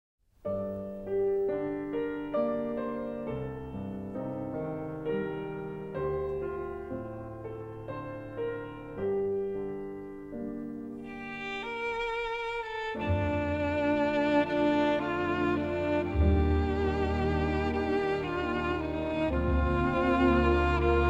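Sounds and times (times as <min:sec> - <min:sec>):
slow piano music: 0:00.4 - 0:21.0.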